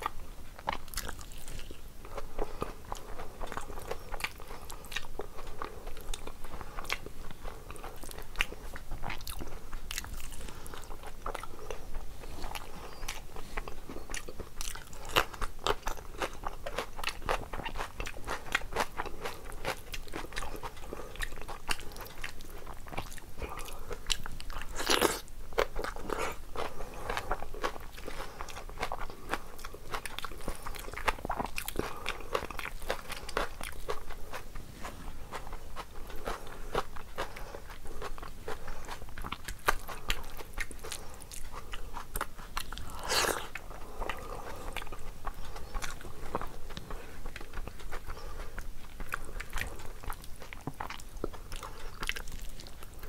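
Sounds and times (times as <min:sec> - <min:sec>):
wet chewing clicks: 0:00.0 - 0:34.6, 0:35.3 - 0:53.0.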